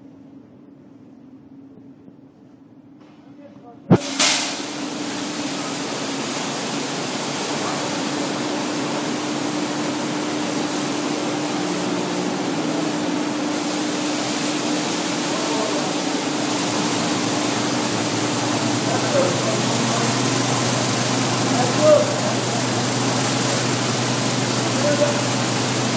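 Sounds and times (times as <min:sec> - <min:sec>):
machinery whirring and hissing: 0:03.9 - 0:25.9.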